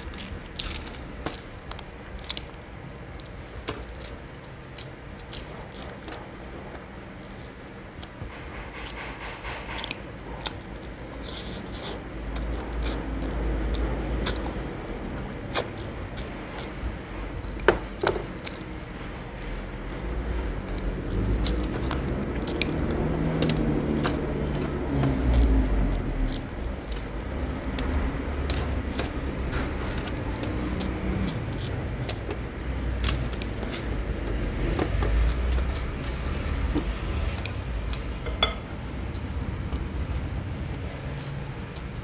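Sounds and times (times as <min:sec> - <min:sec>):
man chewing food: 0:00.0 - 0:06.9, 0:08.8 - 0:42.0.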